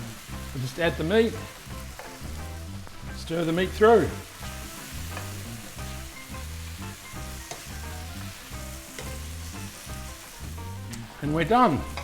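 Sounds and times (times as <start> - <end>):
background music with bass beat: 0.0 - 12.0
food sizzling in a pan: 0.0 - 12.0.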